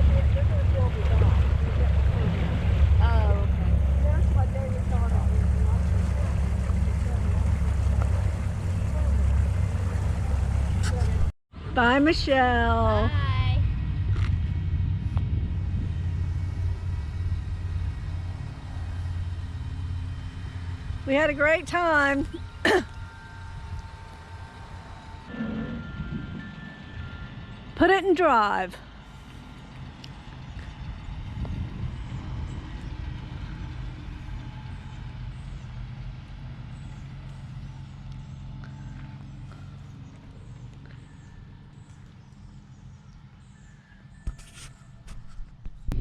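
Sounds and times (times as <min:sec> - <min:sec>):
vehicle engine rumbling: 0:00.0 - 0:46.0.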